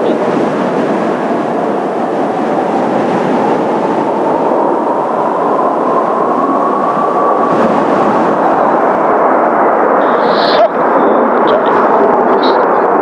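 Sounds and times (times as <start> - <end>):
faint jet engine whine: 0.0 - 13.0
jet roar: 0.0 - 13.0.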